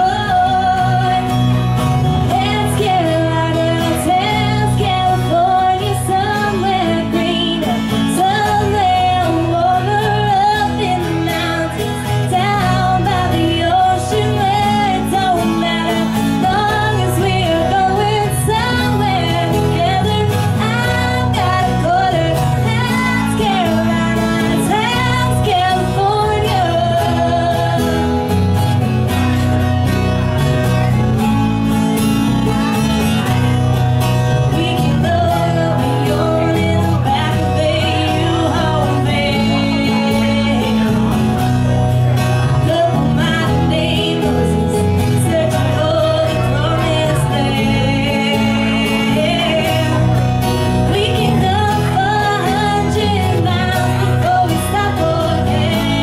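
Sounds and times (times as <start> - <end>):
person singing: 0.0 - 28.4, 34.1 - 56.0
guitar accompaniment: 0.0 - 56.0.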